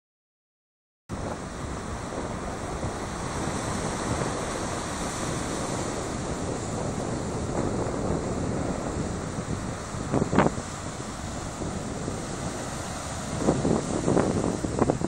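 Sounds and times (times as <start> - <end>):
wind buffeting microphone: 1.1 - 15.0
surf breaking on rocks: 1.2 - 15.0.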